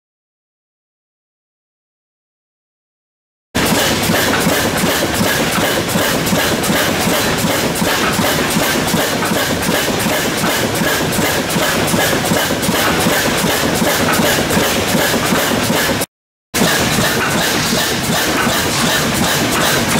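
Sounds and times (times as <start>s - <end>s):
stationary engine clattering: 3.6s - 19.9s.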